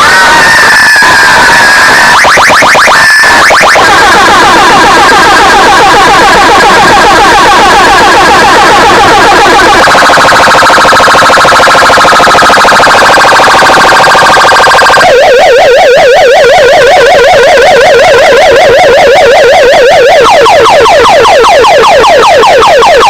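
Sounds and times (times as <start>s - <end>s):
electronic siren warbling: 0.0s - 23.0s.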